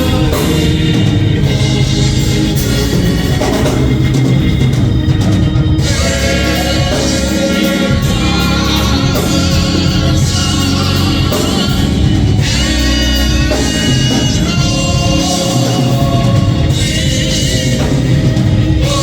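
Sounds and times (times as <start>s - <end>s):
gospel choir singing: 0.0s - 19.0s
live band with drums and bass: 0.0s - 19.0s.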